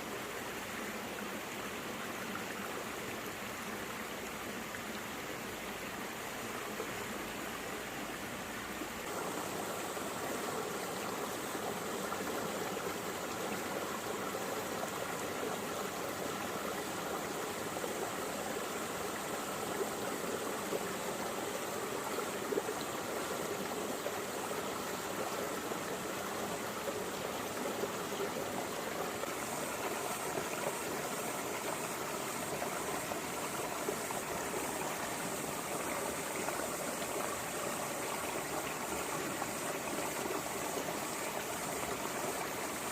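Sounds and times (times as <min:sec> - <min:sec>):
stream flowing over rocks: 0:00.0 - 0:42.9.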